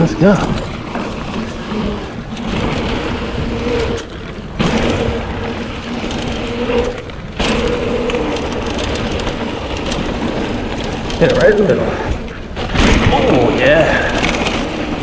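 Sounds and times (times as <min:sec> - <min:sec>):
bike tyres rolling over dirt: 0:00.0 - 0:15.0
wind rushing on camera: 0:00.0 - 0:15.0.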